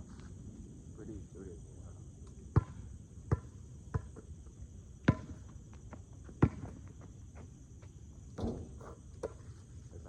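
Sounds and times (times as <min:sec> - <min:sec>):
crickets chirring: 0:00.3 - 0:10.0.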